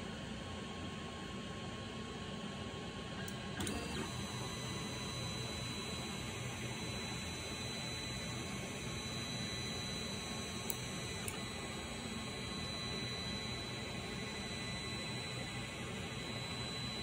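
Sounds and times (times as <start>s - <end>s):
fans humming: 1.8s - 17.0s.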